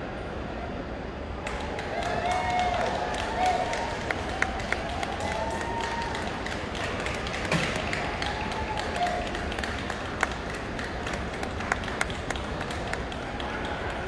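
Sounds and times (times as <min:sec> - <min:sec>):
indoor hall crowd hubbub: 0:00.0 - 0:14.0.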